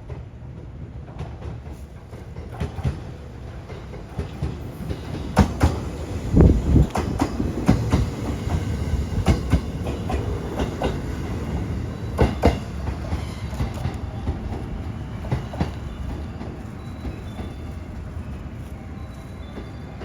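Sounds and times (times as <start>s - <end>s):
train rumble: 0.0s - 20.0s
train wheels clacking: 0.0s - 20.0s.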